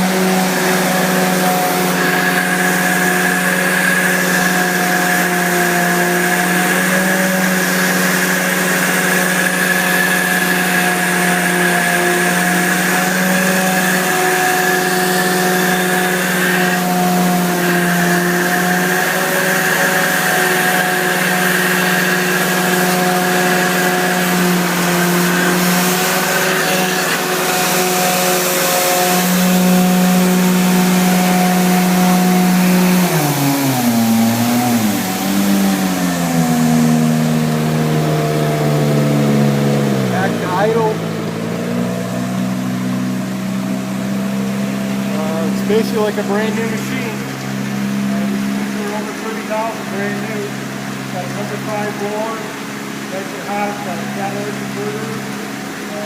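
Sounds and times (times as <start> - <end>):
carpet cleaner engine humming: 0.0 - 56.0.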